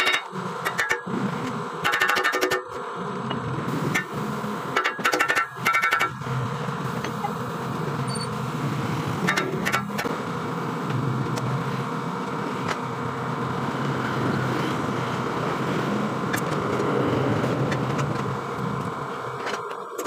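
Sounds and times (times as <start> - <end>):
steady mechanical running noise: 0.0 - 20.0.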